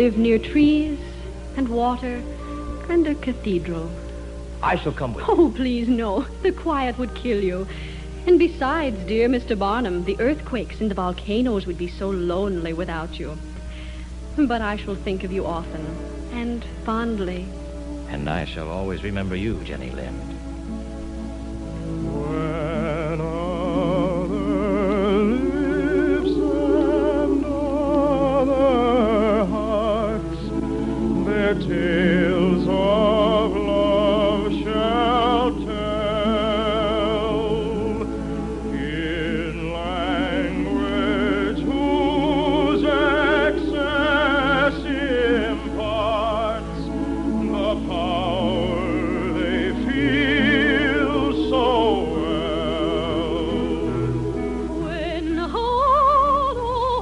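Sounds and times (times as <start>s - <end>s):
operatic singing: 0.0s - 13.5s, 21.8s - 57.0s
orchestral accompaniment: 0.0s - 57.0s.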